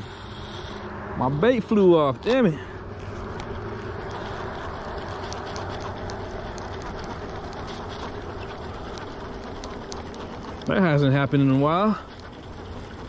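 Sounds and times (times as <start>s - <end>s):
fishing reel whirring and clicking: 1.6s - 13.0s.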